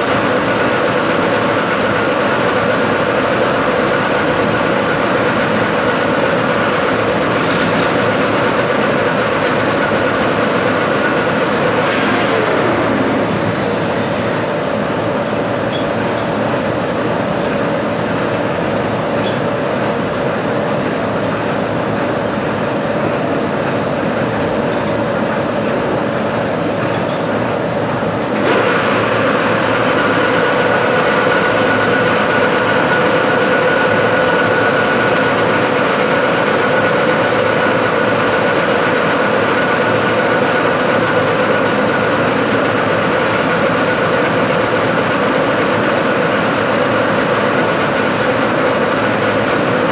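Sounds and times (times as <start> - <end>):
machine tool hum and whine: 0.0 - 49.9.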